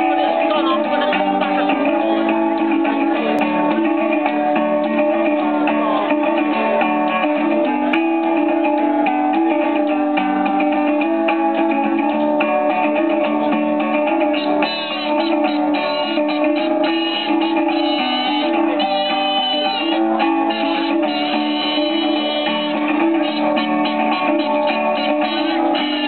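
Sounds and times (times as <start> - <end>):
live band with strummed guitars: 0.0 - 26.0.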